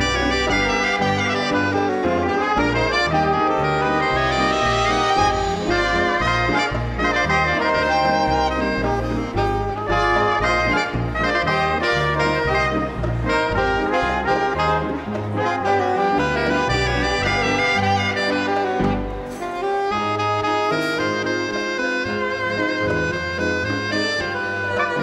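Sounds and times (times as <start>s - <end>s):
big band playing: 0.0s - 25.0s.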